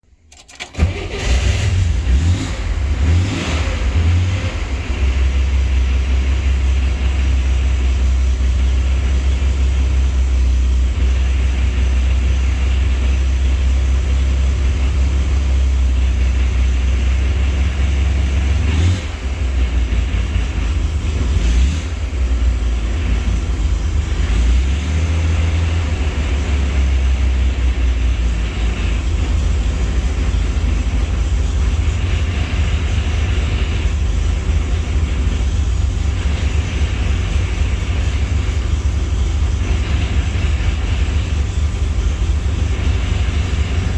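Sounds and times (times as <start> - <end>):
car engine starting and idling: 0.0 - 43.9.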